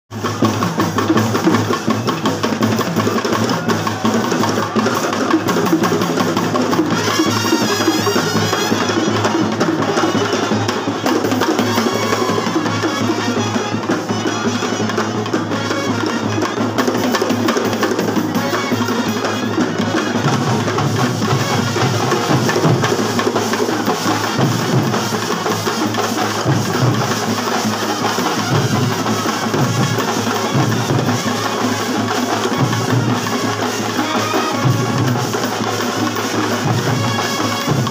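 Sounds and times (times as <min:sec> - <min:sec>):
drums and cymbals beat: 0:00.1 - 0:37.9
trumpets and brass: 0:00.1 - 0:37.9.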